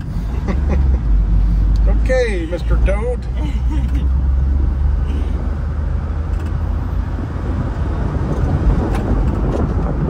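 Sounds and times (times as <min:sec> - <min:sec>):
road noise inside cab: 0:00.0 - 0:10.0
small truck engine rumble: 0:00.0 - 0:10.0.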